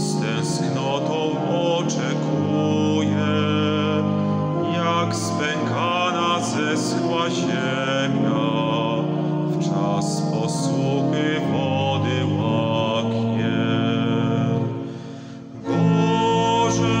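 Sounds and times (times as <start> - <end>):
man singing a hymn with vibrato: 0.0 - 17.0
pipe organ chords: 0.0 - 17.0.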